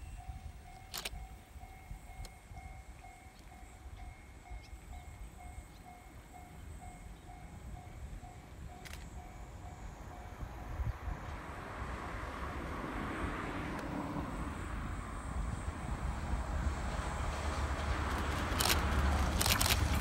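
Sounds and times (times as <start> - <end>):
diesel locomotive engine: 0.0 - 20.0
low wind rumble: 0.0 - 20.0
train running noise: 0.0 - 20.0.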